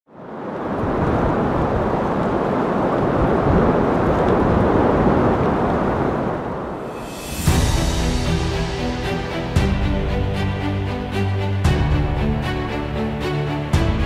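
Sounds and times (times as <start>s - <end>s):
strong storm wind rushing: 0.1s - 14.0s.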